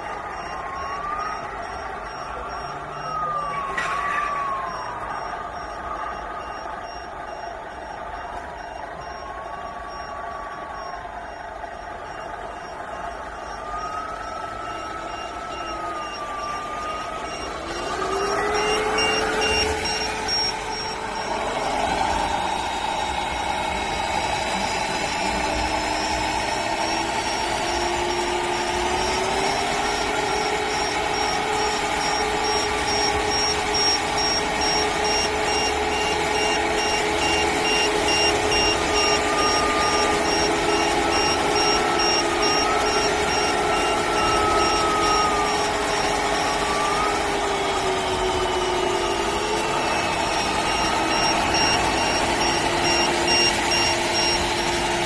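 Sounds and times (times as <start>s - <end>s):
electronic truck engine sound: 0.0s - 55.0s.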